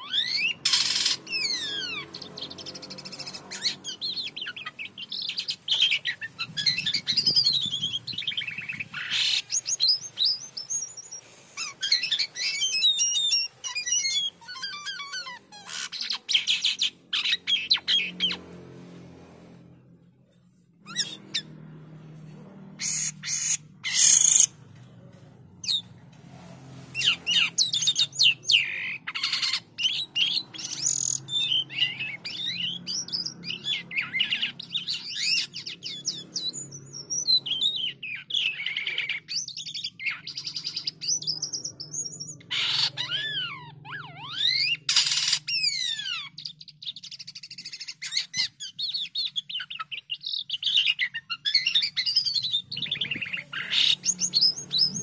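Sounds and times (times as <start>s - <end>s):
starling singing whistles and trills: 0.0s - 18.5s, 20.8s - 21.6s, 22.8s - 24.5s, 26.9s - 55.0s.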